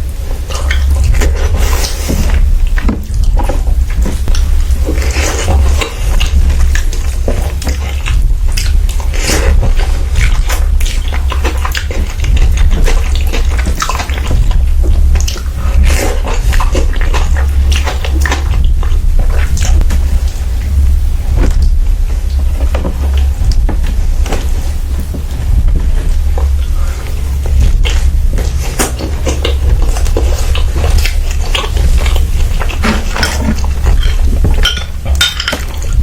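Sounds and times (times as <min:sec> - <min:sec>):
constant low hum: 0:00.0 - 0:36.0
wet chewing and lip-smacking: 0:00.0 - 0:36.0.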